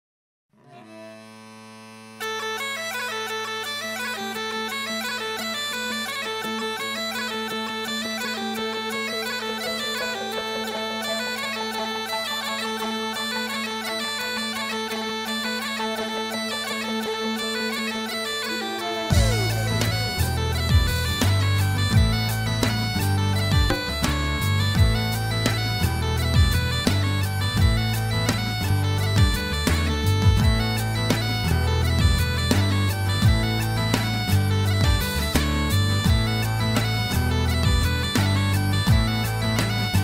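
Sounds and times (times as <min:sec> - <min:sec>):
bagpipe drones: 0:00.6 - 0:40.0
bagpipe chanter playing quick tune: 0:00.7 - 0:40.0.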